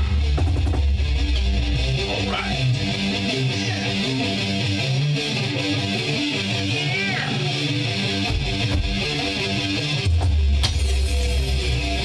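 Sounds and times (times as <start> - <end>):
electric guitar playing chords: 0.0 - 12.0.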